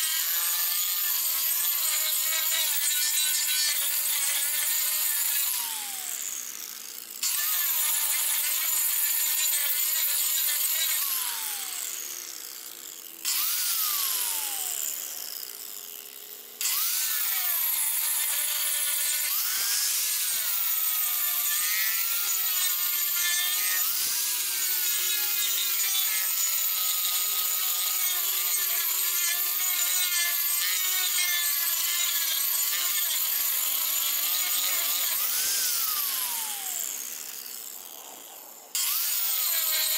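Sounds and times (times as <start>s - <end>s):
angle grinder whining on wood: 0.0s - 39.9s.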